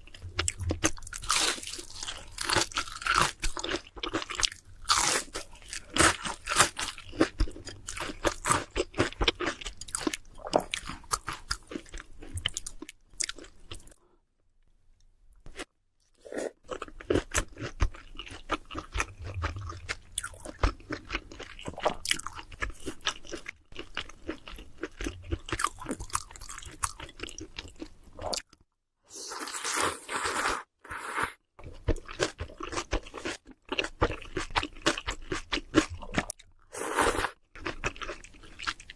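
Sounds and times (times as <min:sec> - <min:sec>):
crunchy fried food being chewed: 0:00.0 - 0:14.0, 0:16.6 - 0:28.6, 0:31.6 - 0:38.9.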